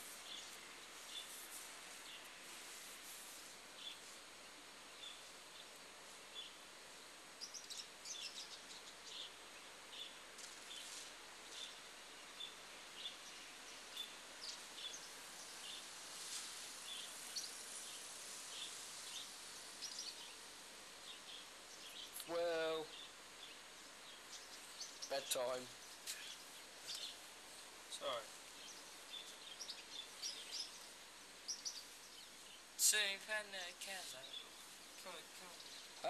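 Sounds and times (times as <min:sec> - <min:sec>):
steady hiss: 0:00.0 - 0:36.0.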